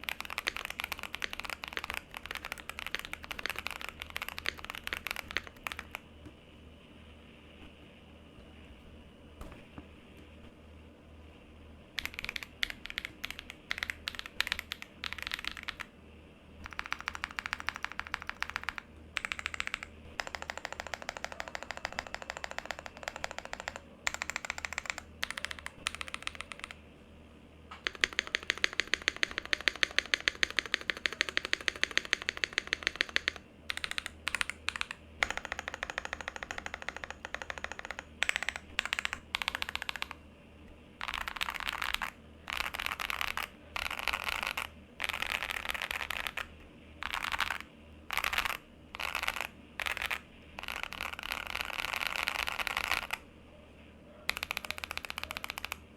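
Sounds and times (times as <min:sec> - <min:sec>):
mechanical keyboard typing: 0:00.0 - 0:06.0, 0:12.0 - 0:15.9, 0:16.6 - 0:26.8, 0:27.7 - 0:40.2, 0:41.0 - 0:53.2, 0:54.3 - 0:55.9.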